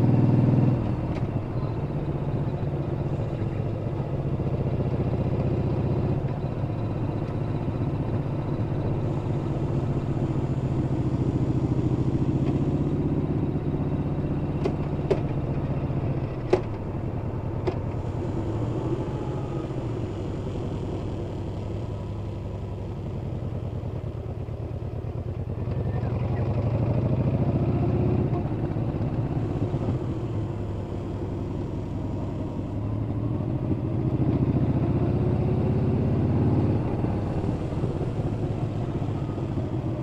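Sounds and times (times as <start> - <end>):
motorcycle engine rumble: 0.0 - 40.0.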